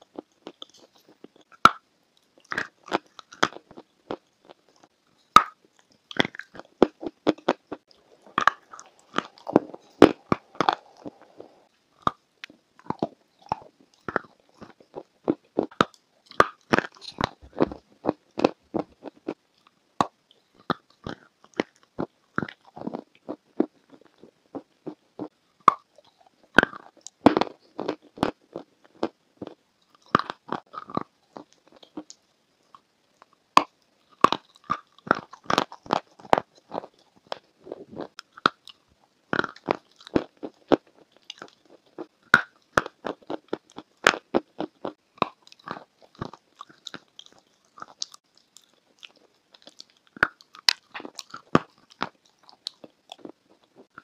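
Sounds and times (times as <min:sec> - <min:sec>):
person crunching and chewing: 0:00.0 - 0:01.8, 0:02.4 - 0:54.0.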